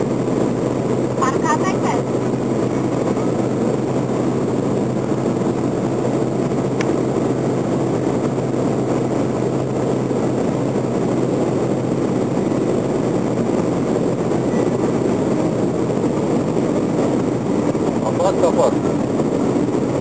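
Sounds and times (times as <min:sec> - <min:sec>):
car engine drone: 0:00.0 - 0:20.0
wind noise: 0:00.0 - 0:20.0.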